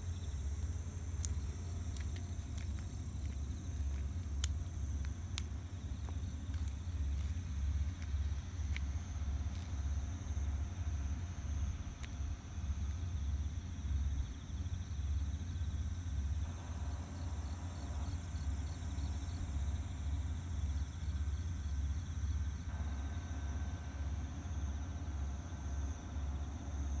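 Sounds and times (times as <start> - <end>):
insects chirping: 0.0 - 27.0
uneven low rumble: 0.0 - 27.0.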